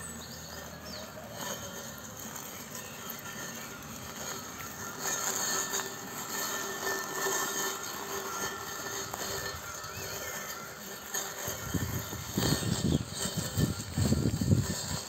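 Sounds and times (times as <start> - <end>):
robotic lawn mower motor whine: 0.0 - 15.0.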